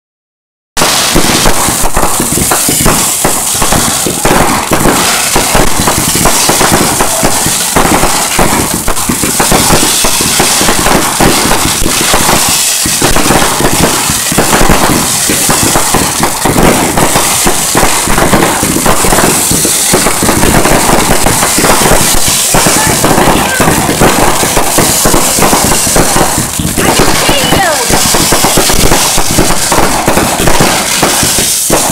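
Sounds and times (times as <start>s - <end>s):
fireworks bangs and pops: 0.8s - 31.9s.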